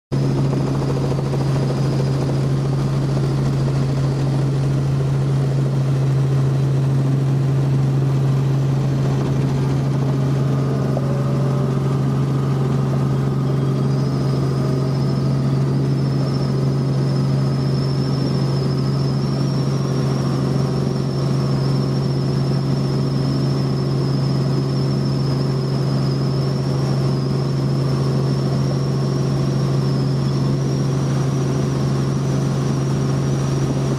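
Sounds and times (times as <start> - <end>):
helicopter drone: 0.1 - 33.9
high whine: 0.2 - 28.6.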